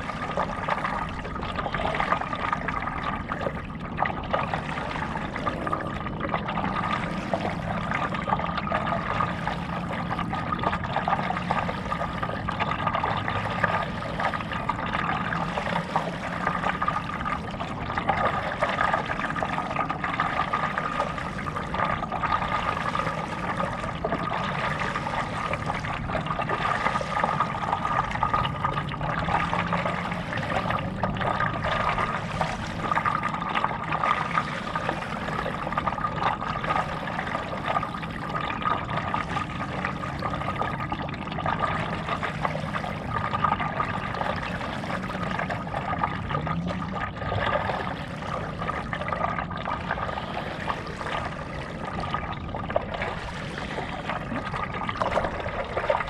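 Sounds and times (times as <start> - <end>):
paddle splashing water: 0.0 - 56.0
steady high-pitched hum: 0.0 - 56.0.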